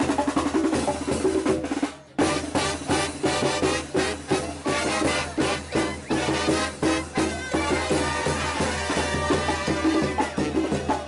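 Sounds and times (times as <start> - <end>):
upbeat music with percussive beat: 0.0 - 11.0.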